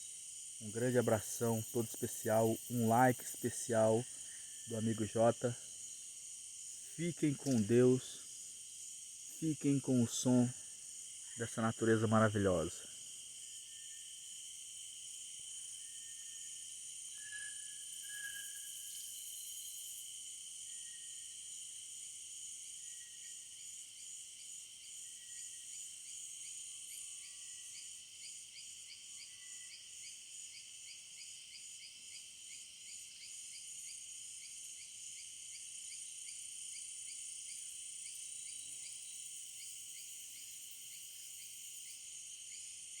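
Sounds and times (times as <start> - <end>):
insect chirping: 0.0 - 43.0
insects buzzing: 0.0 - 43.0.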